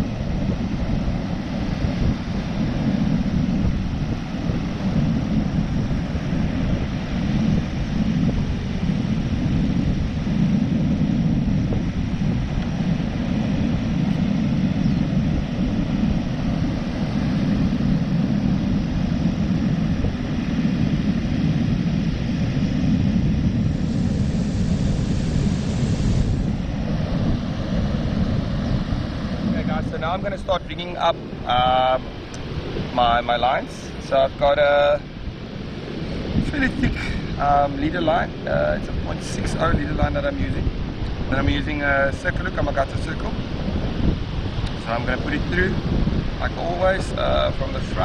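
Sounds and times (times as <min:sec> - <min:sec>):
surf washing: 0:00.0 - 0:48.0
wind buffeting microphone: 0:00.0 - 0:48.0.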